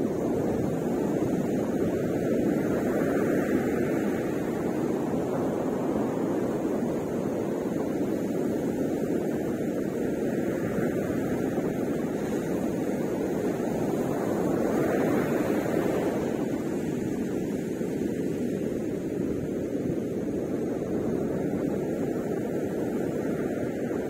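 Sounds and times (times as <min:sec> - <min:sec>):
ocean surf on beach: 0:00.0 - 0:24.0.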